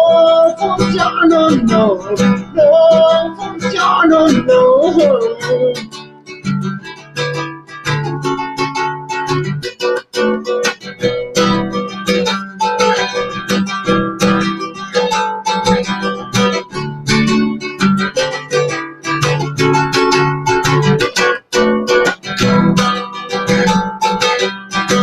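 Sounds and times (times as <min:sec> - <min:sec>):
strummed guitar chords: 0:00.0 - 0:25.0.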